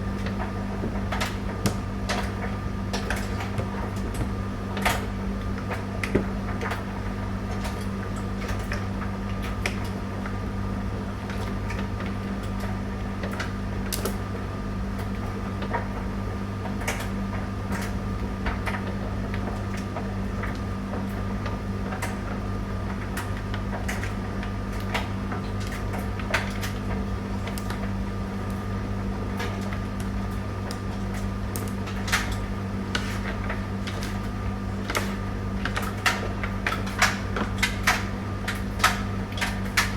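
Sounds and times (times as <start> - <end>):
tumble dryer motor hum: 0.0 - 39.9.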